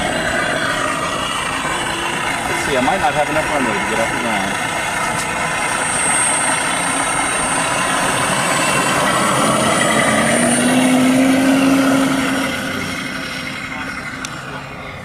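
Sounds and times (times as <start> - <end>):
model plane motor and propeller: 0.0 - 10.6, 11.6 - 15.0.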